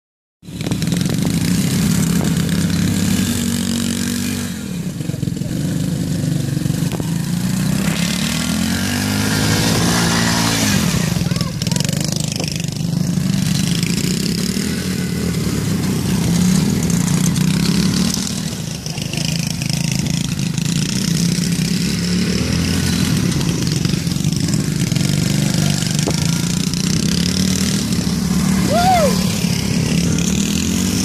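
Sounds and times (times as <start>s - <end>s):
quad bike engine revving: 0.4s - 31.0s.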